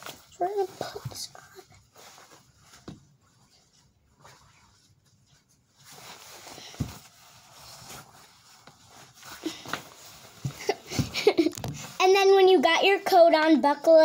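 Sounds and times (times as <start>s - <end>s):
coat fabric rustling: 0.0s - 12.2s.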